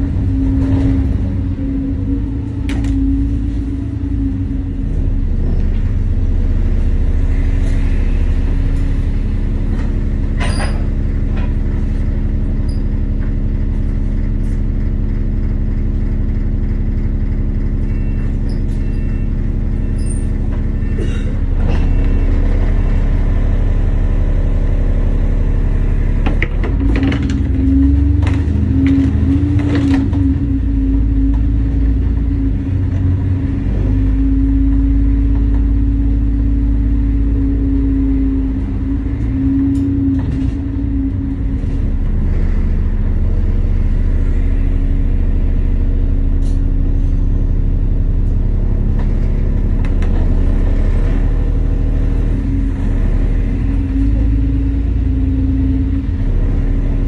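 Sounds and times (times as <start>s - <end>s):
bus diesel engine idling: 0.0s - 57.0s.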